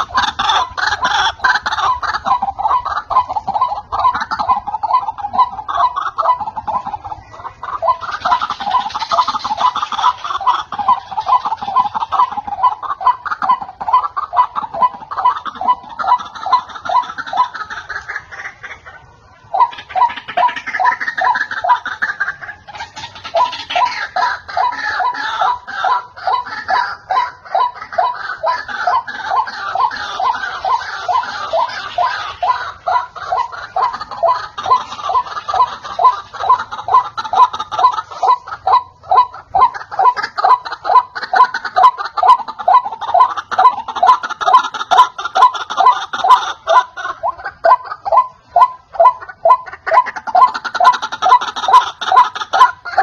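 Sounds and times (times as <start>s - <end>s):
waterhen calling harsh notes: 0.0s - 53.0s.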